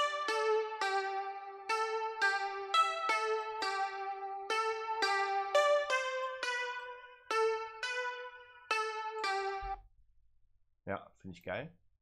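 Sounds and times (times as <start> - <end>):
plucked keyboard melody: 0.0 - 9.8.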